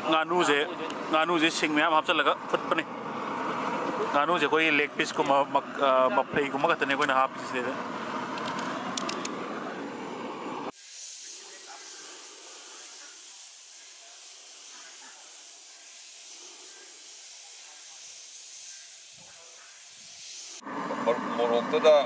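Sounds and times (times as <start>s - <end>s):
steady high hiss: 0.0s - 22.0s.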